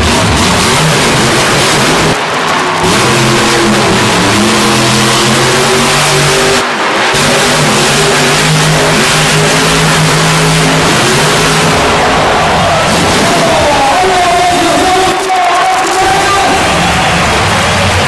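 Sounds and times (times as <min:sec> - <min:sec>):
truck engine revving high: 0:00.0 - 0:18.0.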